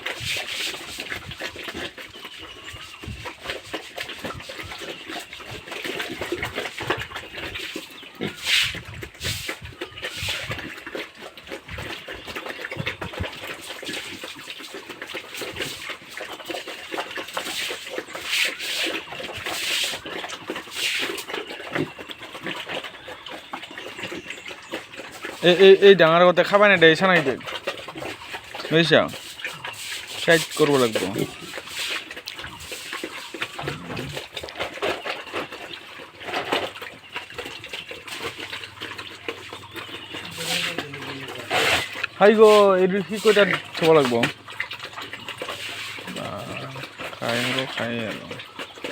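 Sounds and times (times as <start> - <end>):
wet splashing and sloshing: 0.0 - 48.9.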